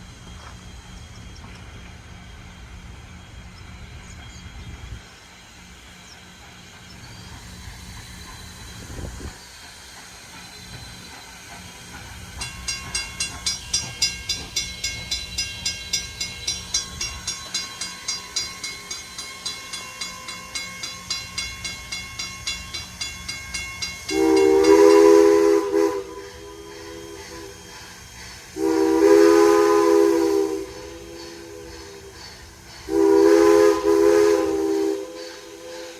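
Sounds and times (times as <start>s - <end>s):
steam locomotive bell ringing: 7.0s - 35.9s.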